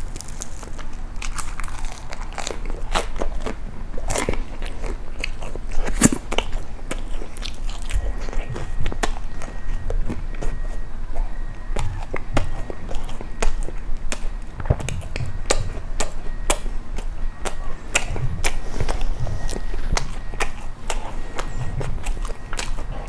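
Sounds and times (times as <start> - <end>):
crunchy bites and chewing: 0.0 - 23.0.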